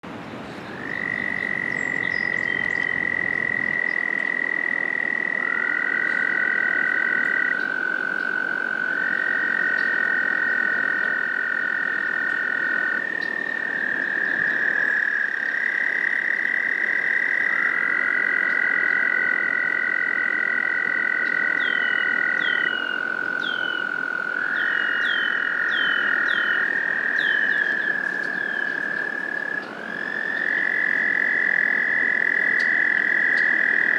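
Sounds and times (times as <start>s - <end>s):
toads trilling in chorus: 0.7s - 33.9s.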